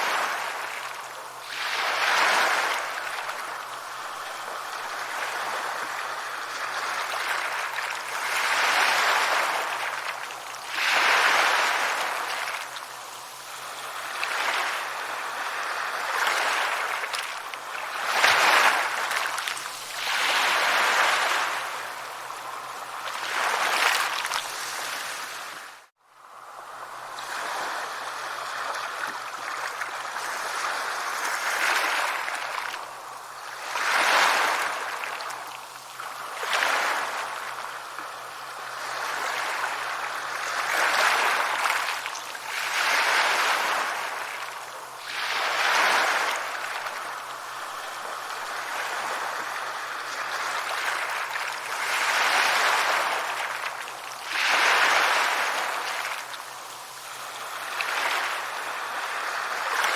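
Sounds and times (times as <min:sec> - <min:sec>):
sea waves washing onto beach: 0:00.0 - 0:59.9.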